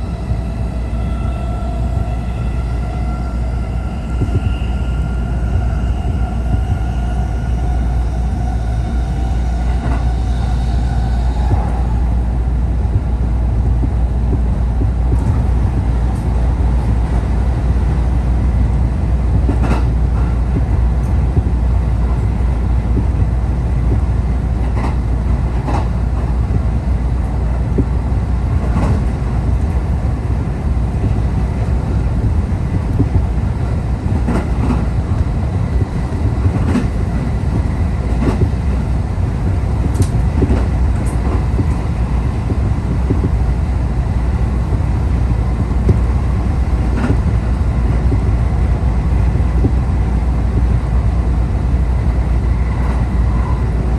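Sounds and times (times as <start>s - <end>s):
vehicle engine rumble: 0.0s - 53.9s.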